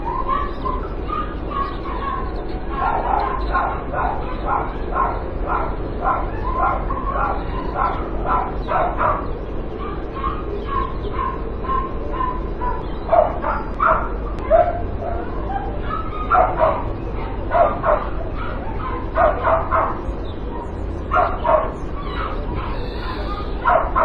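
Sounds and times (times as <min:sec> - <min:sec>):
dog whining: 0:00.0 - 0:24.0
dogs barking: 0:00.0 - 0:24.0.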